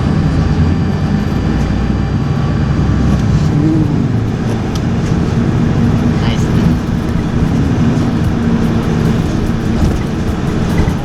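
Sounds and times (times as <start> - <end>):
vehicle rumble in motion: 0.0 - 11.0.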